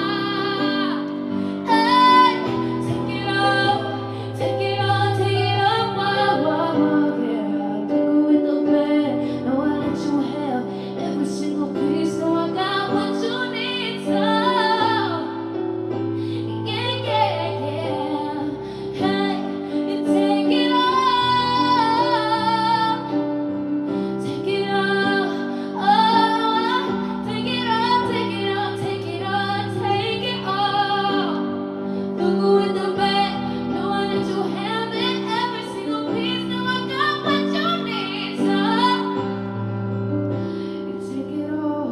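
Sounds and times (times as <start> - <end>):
woman singing: 0.0 - 15.6, 16.4 - 39.6, 40.8 - 41.9
instrumental backing chords: 0.0 - 41.9.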